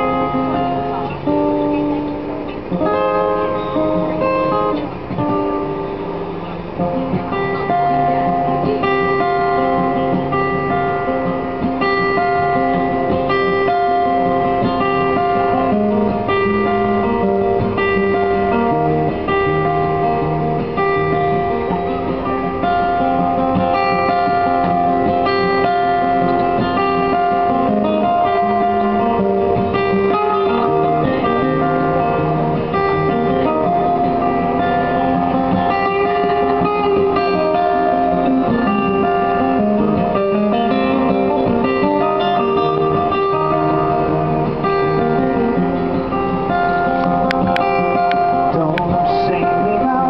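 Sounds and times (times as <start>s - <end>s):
amplified acoustic guitar: 0.0s - 50.0s.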